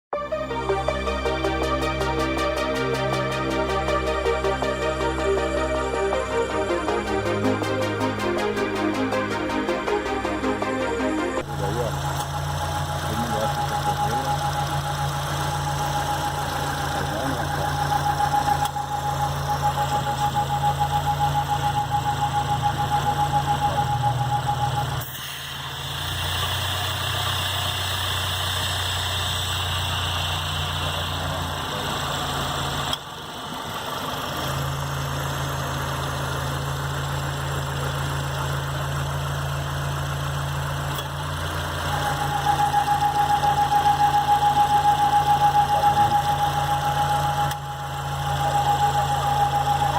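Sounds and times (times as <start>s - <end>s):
thin steady whine: 0.1s - 34.0s, 37.8s - 49.9s
car engine idling: 0.1s - 49.9s.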